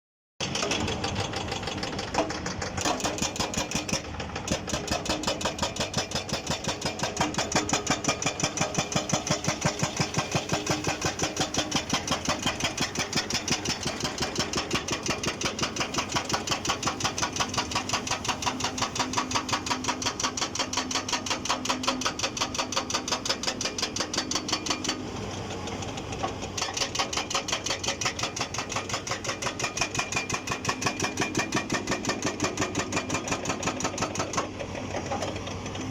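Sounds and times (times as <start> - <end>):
hydraulic breaker hammering: 0.4 - 25.0, 26.6 - 35.3
excavator engine running: 0.4 - 35.9.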